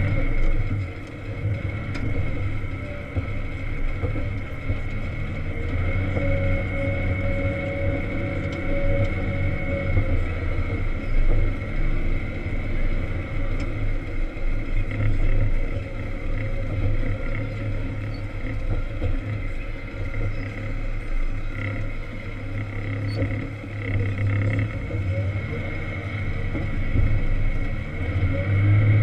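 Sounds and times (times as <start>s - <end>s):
diesel engine under load: 0.0s - 29.0s
faint whine: 0.0s - 29.0s.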